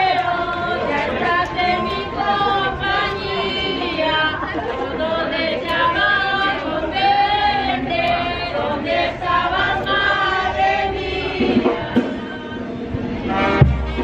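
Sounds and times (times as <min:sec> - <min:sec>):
crowd singing a hymn: 0:00.0 - 0:14.0.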